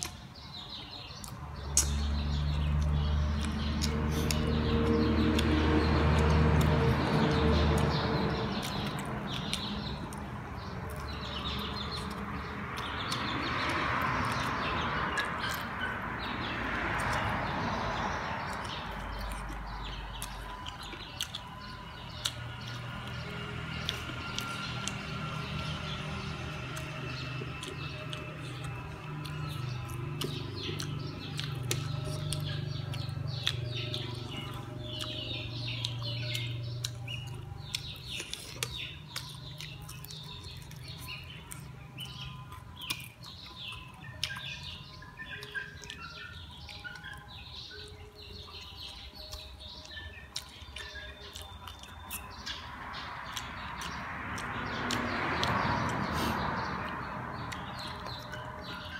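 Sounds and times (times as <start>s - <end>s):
chewing chicken wings: 0.0s - 58.9s
small birds chirping: 0.0s - 58.9s.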